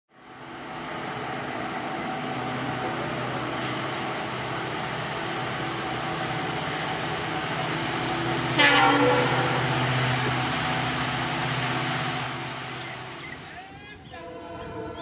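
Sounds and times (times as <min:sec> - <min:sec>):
diesel locomotive engine drone: 0:00.1 - 0:15.0.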